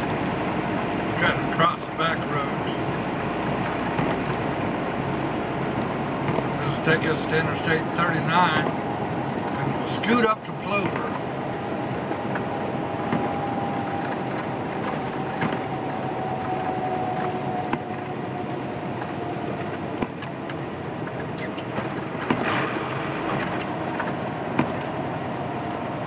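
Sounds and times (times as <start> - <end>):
faint whine: 0.0 - 26.0
truck engine drone: 0.0 - 26.0.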